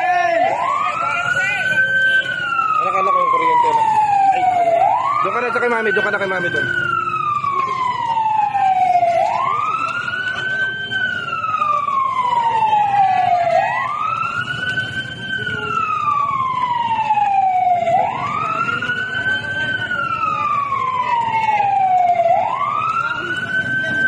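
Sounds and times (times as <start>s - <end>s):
fire truck siren wailing: 0.0s - 24.0s.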